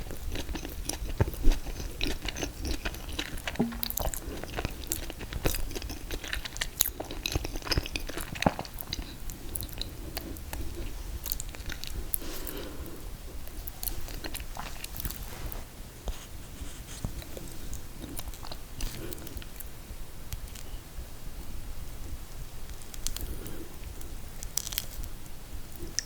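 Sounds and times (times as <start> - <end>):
person chewing ice cream cake: 0.0 - 15.2, 17.0 - 19.7, 22.7 - 26.0.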